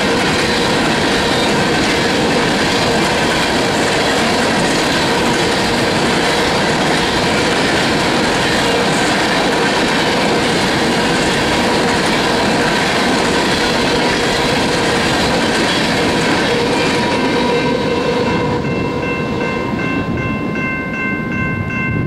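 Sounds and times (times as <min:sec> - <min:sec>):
crossing warning bell ringing: 0:00.0 - 0:22.0
freight train rolling on rails: 0:00.0 - 0:22.0.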